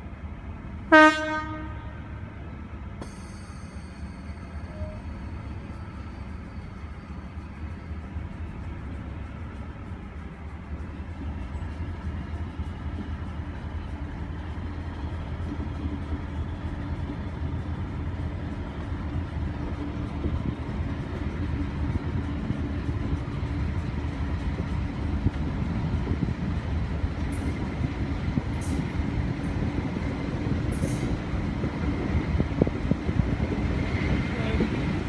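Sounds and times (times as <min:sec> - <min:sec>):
train engine hum: 0:00.0 - 0:35.0
wheels rumbling on track: 0:00.0 - 0:35.0.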